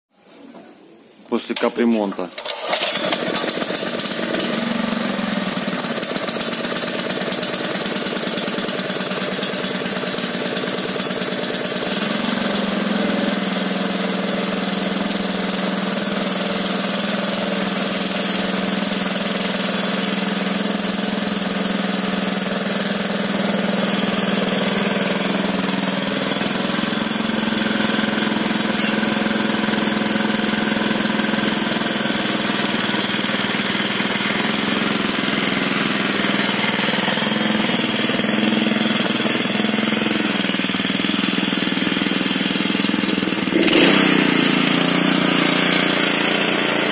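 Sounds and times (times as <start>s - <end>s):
small engine running: 2.4s - 46.9s.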